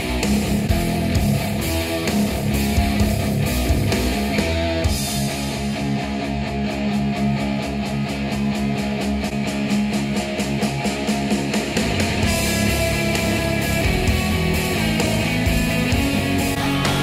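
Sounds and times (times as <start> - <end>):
rock music over speakers: 0.0 - 17.0.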